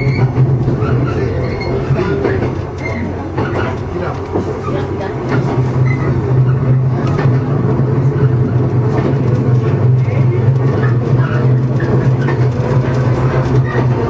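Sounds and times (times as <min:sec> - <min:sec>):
electric train motor hum: 0:00.0 - 0:14.0
wheels clattering on rails: 0:00.0 - 0:14.0.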